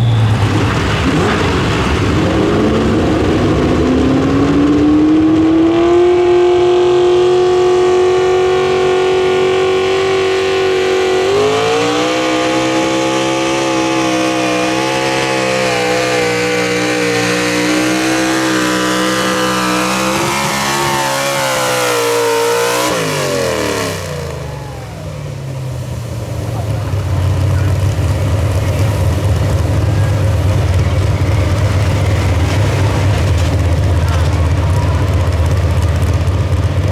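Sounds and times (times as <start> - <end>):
truck engine at high revs: 0.0 - 36.9.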